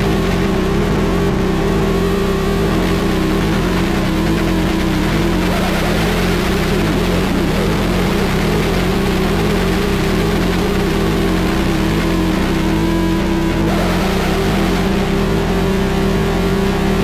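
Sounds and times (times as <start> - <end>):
low drone: 0.0 - 17.0
wall of static: 0.0 - 17.0.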